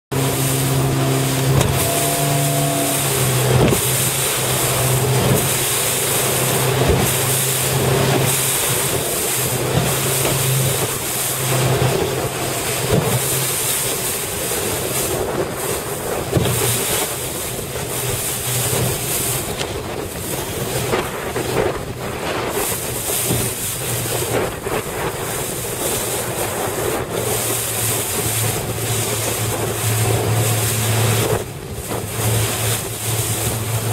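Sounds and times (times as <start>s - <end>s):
motorboat engine droning: 0.0s - 33.9s
wind buffeting microphone: 0.1s - 33.9s.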